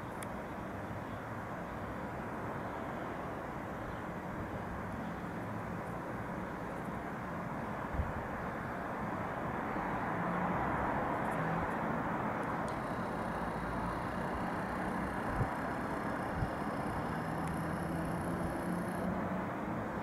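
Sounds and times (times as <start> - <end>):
distant city traffic: 0.0 - 20.0.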